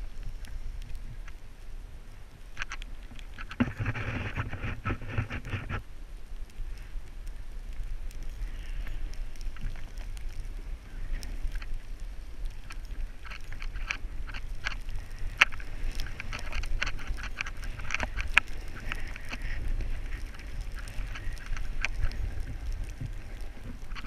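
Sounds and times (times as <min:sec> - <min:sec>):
wind rumbling on microphone: 0:00.0 - 0:24.0
skis scraping snow: 0:02.9 - 0:05.9, 0:06.6 - 0:24.0.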